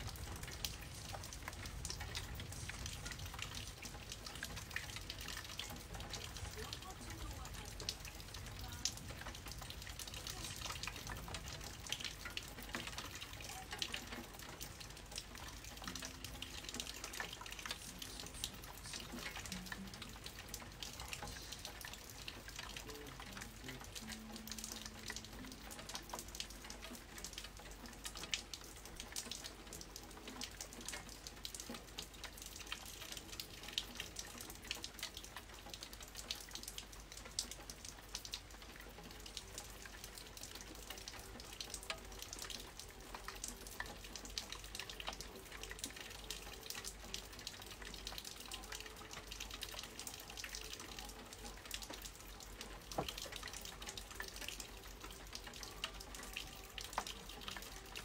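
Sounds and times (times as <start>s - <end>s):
close drops and drips: 0.0s - 58.0s
rain hissing: 0.0s - 58.0s.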